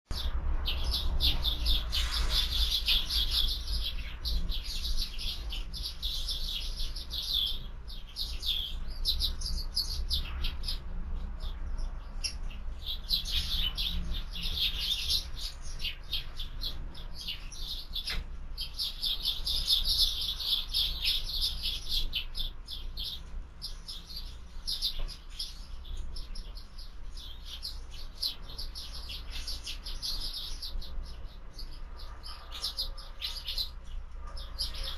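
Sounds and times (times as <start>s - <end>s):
low steady rumble: 0.1s - 29.2s
sparrows chirping: 0.1s - 34.9s.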